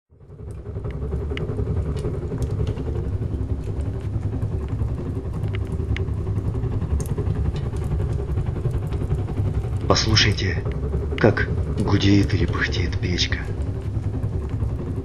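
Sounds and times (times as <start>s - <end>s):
sharp ticks: 0.2s - 15.0s
stove fire rumbling: 0.2s - 15.0s.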